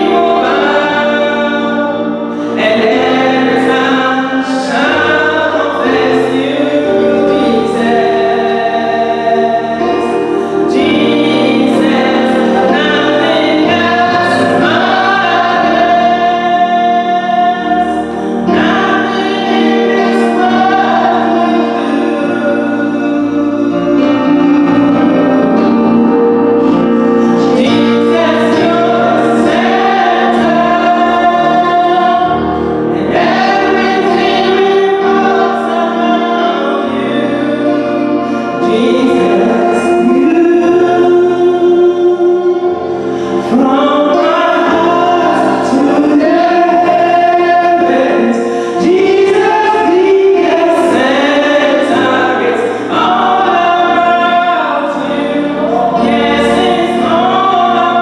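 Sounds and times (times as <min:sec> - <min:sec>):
choir singing a hymn: 0:00.0 - 0:58.0
instrumental accompaniment: 0:00.0 - 0:58.0.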